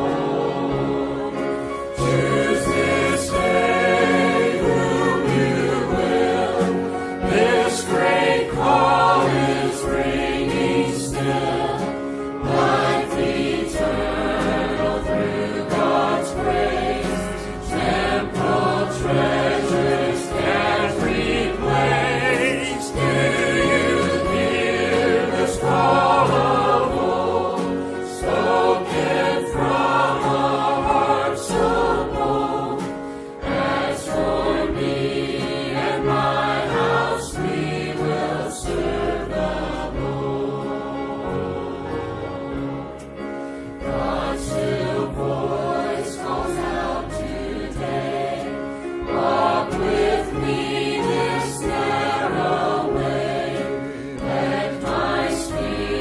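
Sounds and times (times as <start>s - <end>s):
choir singing a hymn: 0.0s - 56.0s
instrumental accompaniment: 0.0s - 56.0s.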